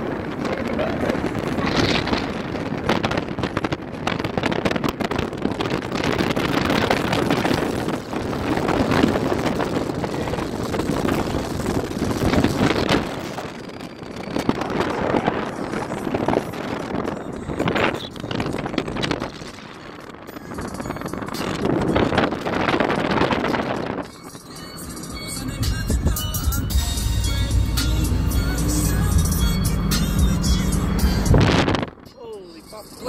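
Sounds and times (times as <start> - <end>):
wind buffeting microphone: 0.0 - 24.5, 25.6 - 32.1.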